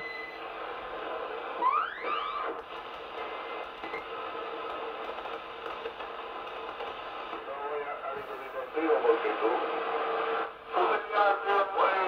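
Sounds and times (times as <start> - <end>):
radio static hiss: 0.0 - 1.6, 2.4 - 12.0.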